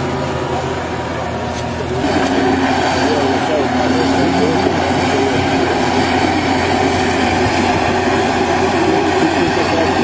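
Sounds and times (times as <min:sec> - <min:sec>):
excavator engine hum: 0:00.0 - 0:10.0
mechanical rumble: 0:00.0 - 0:10.0.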